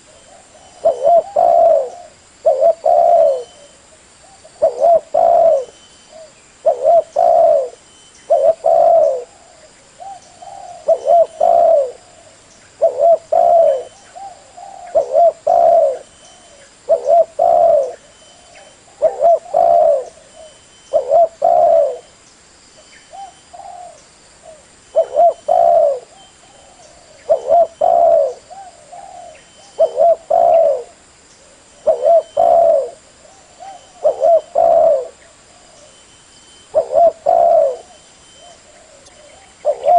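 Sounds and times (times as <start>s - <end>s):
dove cooing: 0.0s - 22.1s, 23.1s - 36.0s, 36.7s - 39.9s.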